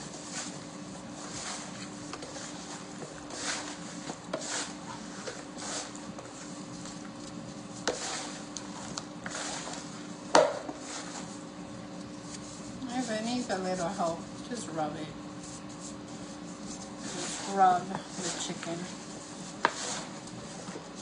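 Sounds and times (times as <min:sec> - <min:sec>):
rustling swishes of hand mixing: 0:00.0 - 0:21.0
steady low hum: 0:00.0 - 0:21.0.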